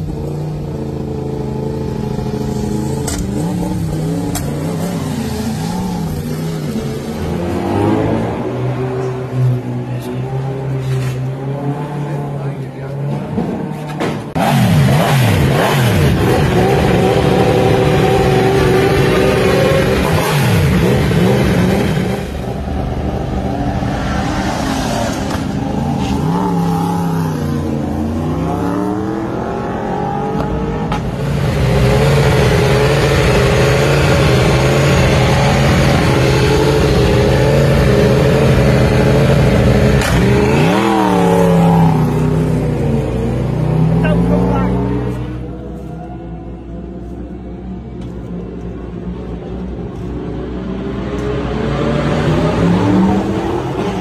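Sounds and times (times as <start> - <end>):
motorcycle engines idling and revving: 0.0 - 54.0.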